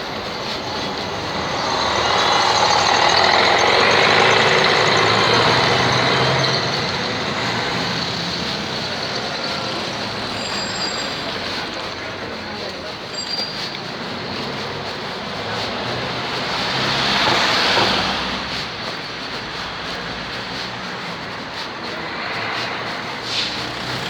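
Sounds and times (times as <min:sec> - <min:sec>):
heavy truck passing: 0:00.0 - 0:24.0
steady traffic: 0:00.0 - 0:24.0.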